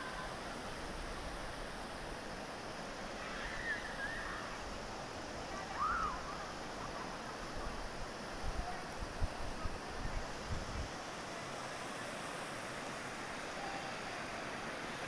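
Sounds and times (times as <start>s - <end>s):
flowing water: 0.0s - 15.0s.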